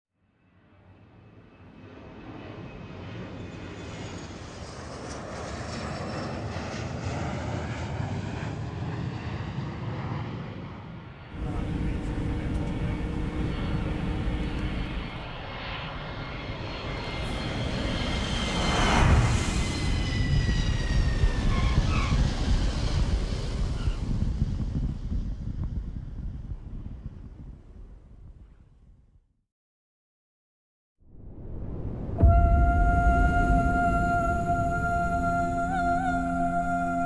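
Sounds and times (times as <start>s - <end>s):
jet engine whine on landing: 0.5s - 27.5s, 31.2s - 37.0s
airliner jet engines taking off: 0.7s - 27.6s, 31.2s - 37.0s.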